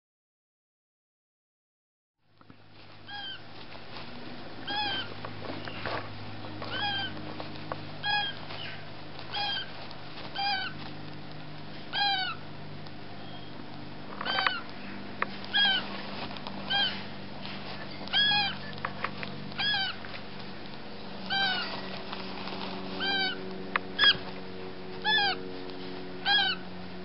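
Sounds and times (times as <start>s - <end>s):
steady low hum: 2.3s - 27.0s
parrot chicks begging calls: 2.9s - 27.0s.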